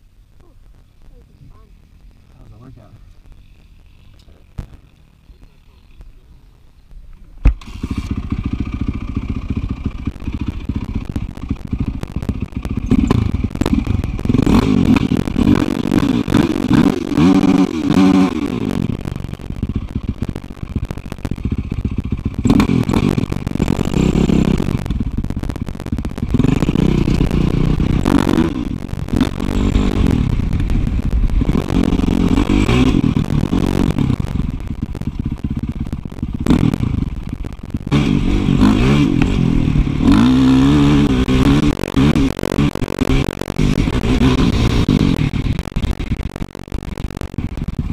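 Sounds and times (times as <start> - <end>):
dirt bike engine revving: 7.5 - 47.9.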